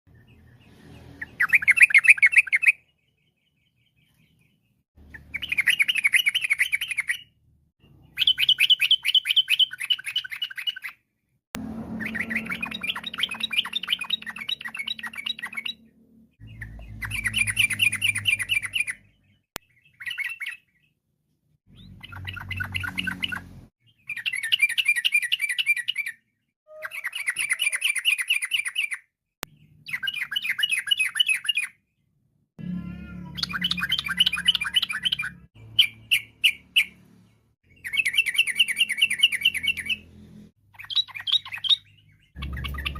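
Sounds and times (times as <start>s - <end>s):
bird chattering song: 0.1s - 11.0s, 11.9s - 21.0s, 21.7s - 31.8s, 33.2s - 40.1s, 40.7s - 42.9s.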